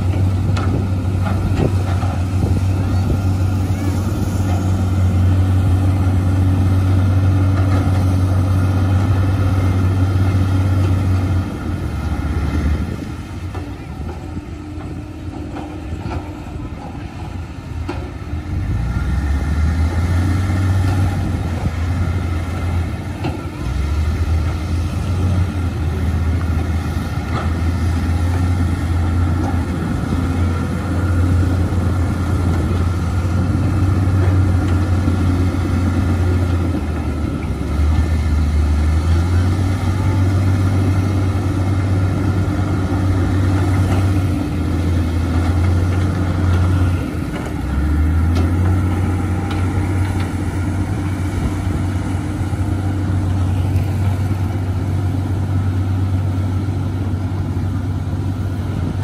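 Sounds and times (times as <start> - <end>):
heavy diesel engines droning: 0.0 - 59.0.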